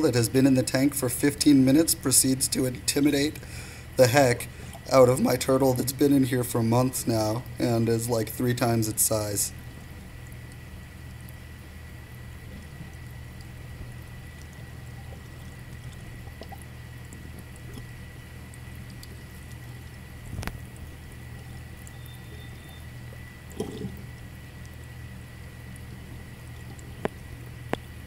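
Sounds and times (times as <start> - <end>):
low hum of tank equipment: 0.0 - 28.0
water trickling and dripping: 0.0 - 28.0.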